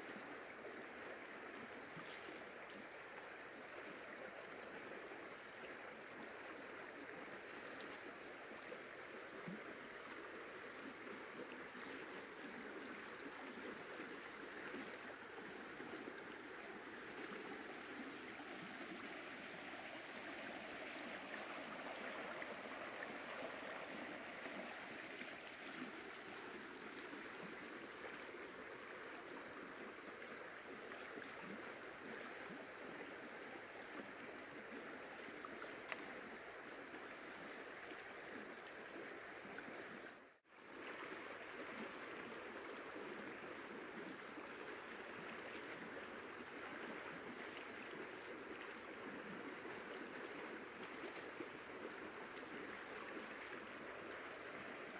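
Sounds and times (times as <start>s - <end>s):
stream water flowing: 0.0s - 54.9s.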